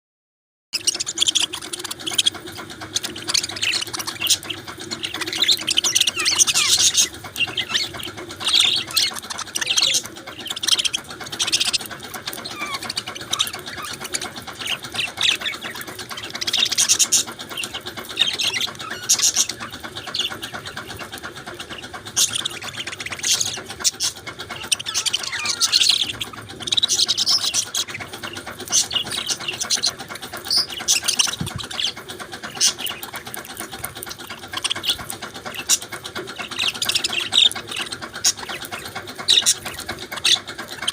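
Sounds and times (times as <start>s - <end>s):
budgerigars chirping: 0.8s - 40.9s.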